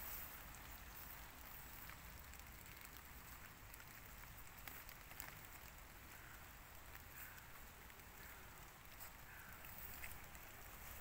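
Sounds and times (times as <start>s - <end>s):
small ticks and crackles: 0.0s - 11.0s
soft hiss and low rumble: 0.0s - 11.0s.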